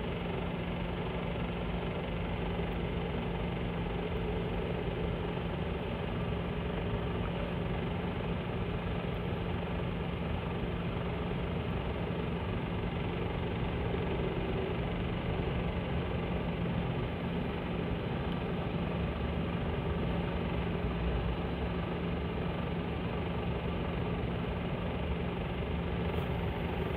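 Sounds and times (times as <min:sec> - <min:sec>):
vehicle engines idling: 0:00.0 - 0:26.9.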